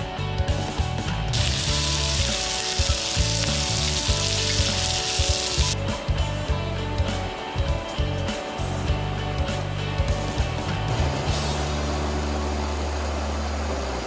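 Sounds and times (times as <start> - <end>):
background music with steady beat: 0.0 - 14.0
high sizzling hiss: 1.3 - 14.0.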